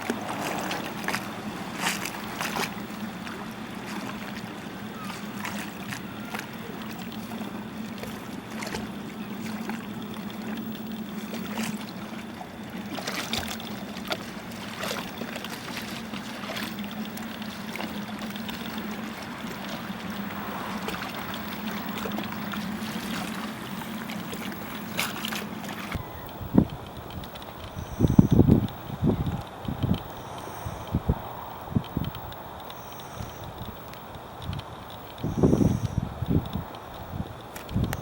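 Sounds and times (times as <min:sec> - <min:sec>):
low hum: 0:00.0 - 0:38.0
rushing water: 0:00.0 - 0:38.0.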